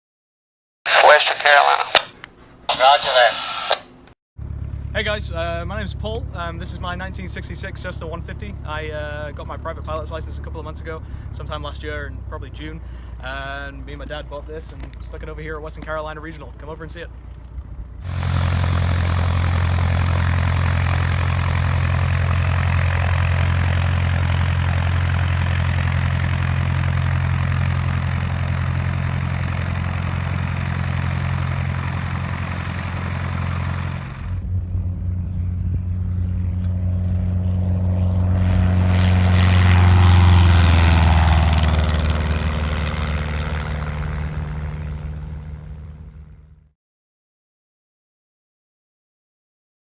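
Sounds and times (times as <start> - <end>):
airplane engine and propeller: 0.9 - 2.1, 2.7 - 3.8, 4.4 - 46.6.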